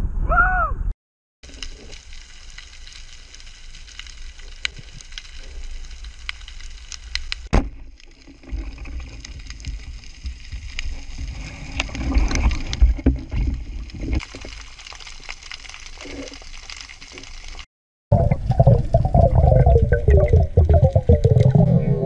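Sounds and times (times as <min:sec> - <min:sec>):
low rumble of moving water: 0:01.5 - 0:22.0.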